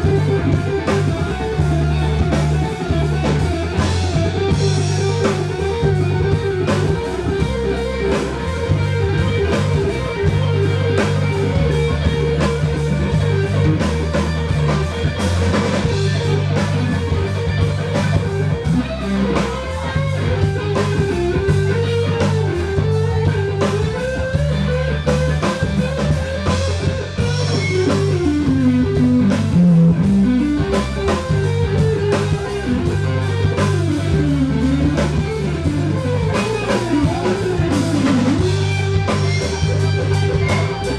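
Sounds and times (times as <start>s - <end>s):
bass guitar: 0.0s - 40.9s
drums: 0.0s - 40.9s
electric guitar lead: 0.0s - 40.9s.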